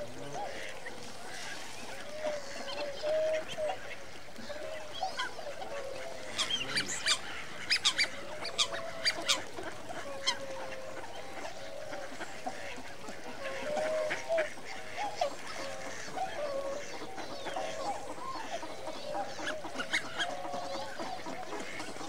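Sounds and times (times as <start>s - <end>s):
waterfowl calling: 0.0s - 22.0s.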